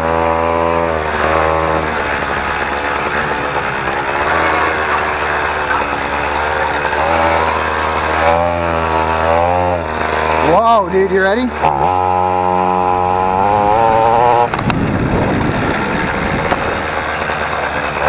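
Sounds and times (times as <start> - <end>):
motorized bicycle engine passing: 0.0 - 18.0.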